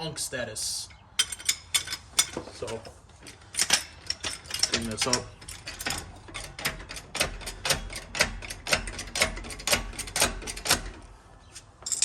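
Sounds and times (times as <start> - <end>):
hydraulic jack clicking: 1.2 - 11.0.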